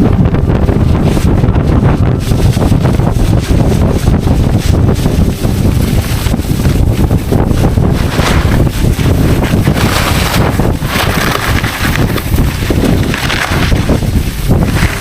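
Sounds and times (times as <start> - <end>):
skis carving snow: 0.0 - 15.0
wind buffeting microphone: 0.0 - 15.0.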